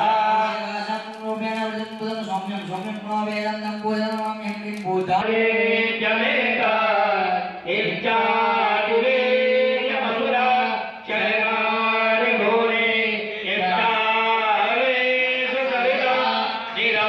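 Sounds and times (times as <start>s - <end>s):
devotional mantra chanting: 0.0s - 17.0s.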